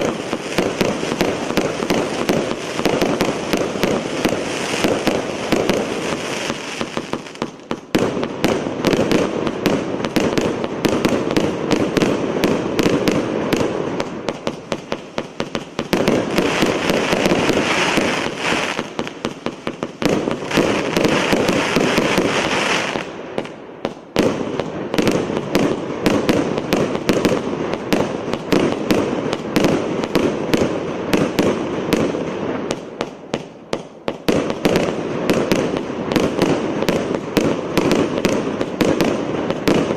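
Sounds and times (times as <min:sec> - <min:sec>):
firework crackling: 0:00.0 - 0:39.9.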